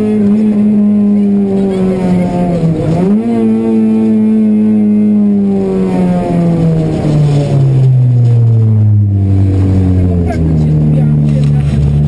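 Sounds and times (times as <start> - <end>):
car engine running from inside cabin: 0.0 - 12.0.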